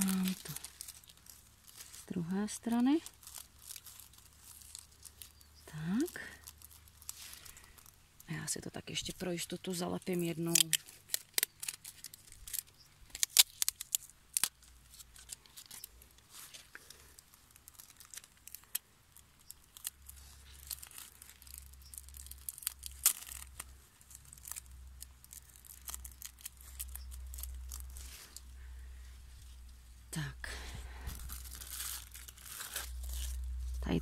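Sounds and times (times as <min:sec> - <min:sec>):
sticky tape pulled and torn: 0:00.0 - 0:08.3, 0:10.0 - 0:28.7, 0:31.0 - 0:33.8
tape and petals crinkling: 0:00.0 - 0:34.0.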